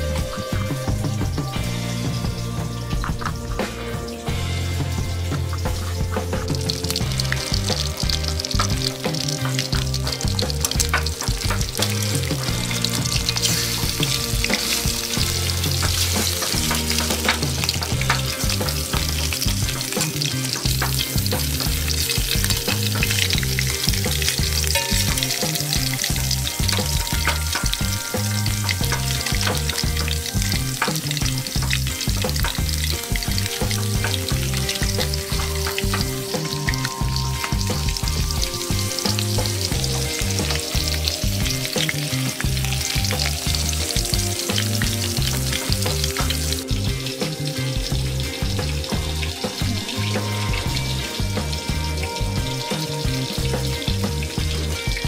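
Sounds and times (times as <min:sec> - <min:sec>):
fish frying in hot oil: 0:00.0 - 0:55.0.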